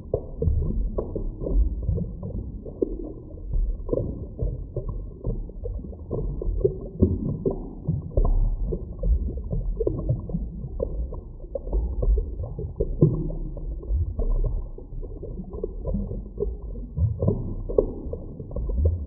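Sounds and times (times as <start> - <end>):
stream water underwater rumbling: 0.0 - 19.0.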